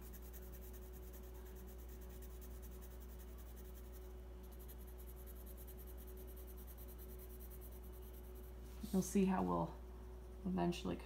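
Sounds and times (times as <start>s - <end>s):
pencil scratching on paper: 0.0s - 9.1s.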